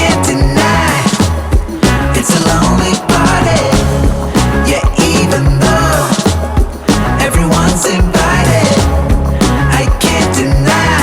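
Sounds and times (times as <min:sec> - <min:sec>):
song with beat bass and singing: 0:00.0 - 0:11.0.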